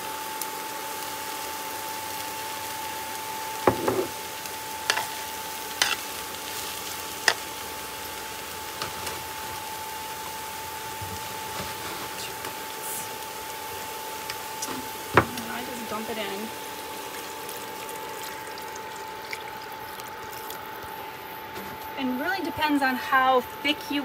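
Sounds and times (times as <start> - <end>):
vegetables sizzling in skillet: 0.0 - 23.1.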